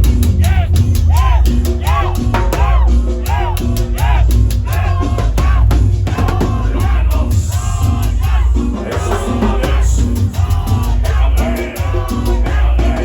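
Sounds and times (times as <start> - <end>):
salsa dance music: 0.0 - 13.0.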